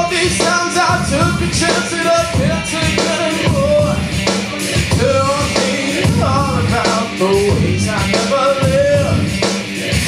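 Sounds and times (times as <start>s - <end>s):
man singing into a microphone: 0.0s - 10.0s
rock backing music: 0.0s - 10.0s.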